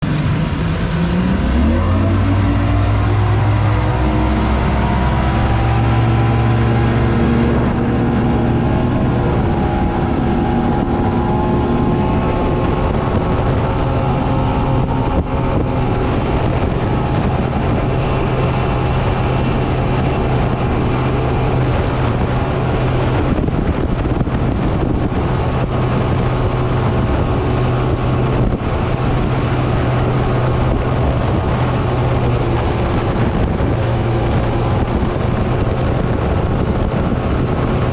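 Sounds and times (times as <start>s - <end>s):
motorboat engine running: 0.0s - 37.9s
wind buffeting microphone: 0.0s - 37.9s.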